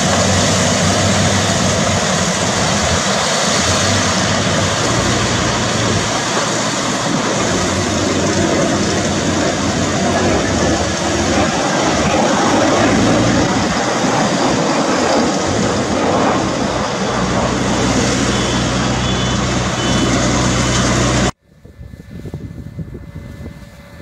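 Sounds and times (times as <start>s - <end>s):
combine harvester hum: 0.0s - 24.0s
tractor and baler engines running: 0.0s - 24.0s.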